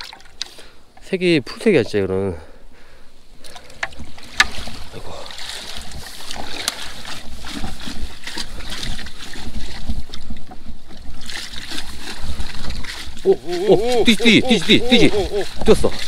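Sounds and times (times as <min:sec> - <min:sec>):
water splashing in a stream: 0:00.0 - 0:02.3, 0:03.2 - 0:16.0.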